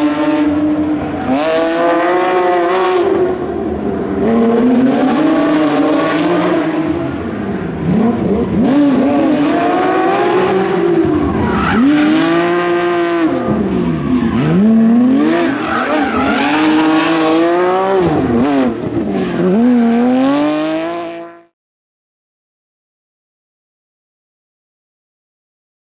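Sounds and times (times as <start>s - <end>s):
rally car engine revving: 0.0s - 21.5s.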